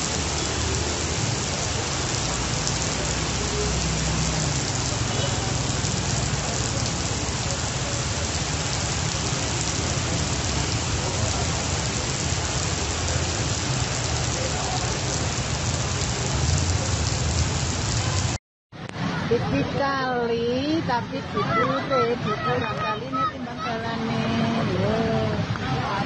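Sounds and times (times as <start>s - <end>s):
heavy rain on paving: 0.0s - 19.8s, 20.6s - 26.0s.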